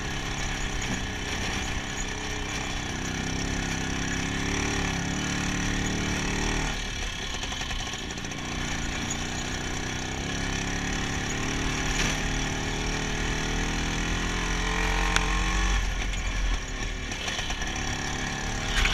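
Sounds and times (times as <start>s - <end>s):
two-stroke motorcycle engine: 0.0s - 18.9s.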